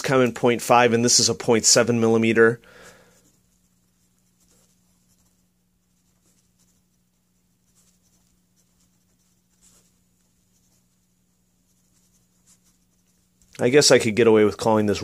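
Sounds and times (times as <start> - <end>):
low steady hum: 0.0 - 15.0
pencil scratching on paper: 0.7 - 13.5.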